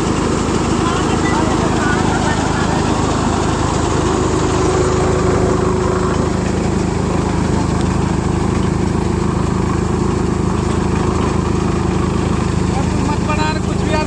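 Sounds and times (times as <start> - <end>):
threshing machine running: 0.0 - 14.0.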